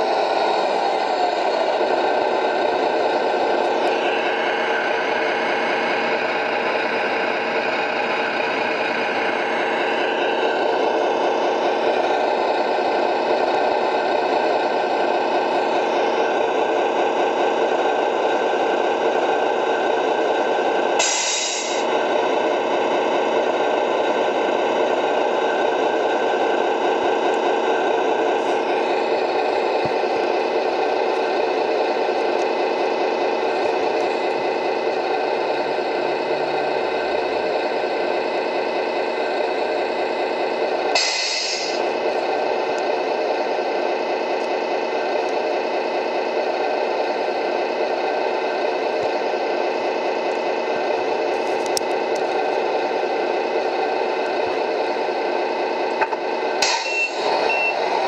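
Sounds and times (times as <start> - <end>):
simulated truck engine from speaker: 0.0 - 58.0.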